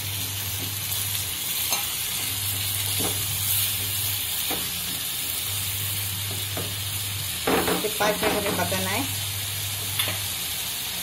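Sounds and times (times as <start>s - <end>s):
masala sizzling and bubbling: 0.0s - 11.0s.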